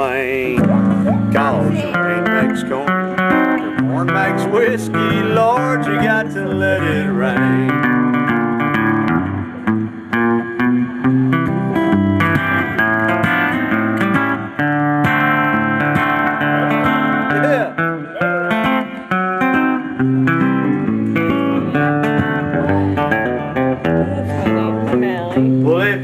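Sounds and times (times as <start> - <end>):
acoustic guitar strummed: 0.0 - 26.0.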